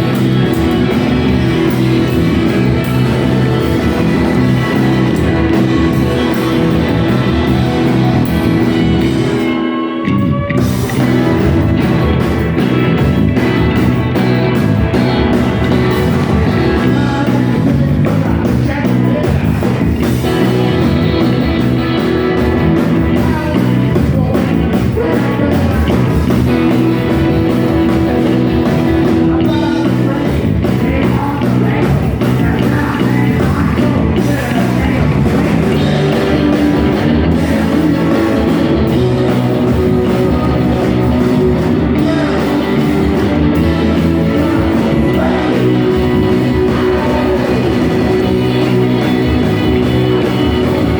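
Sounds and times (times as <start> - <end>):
electric guitar: 0.0 - 50.9
person singing: 0.0 - 50.9
rock band playing live: 0.0 - 50.9.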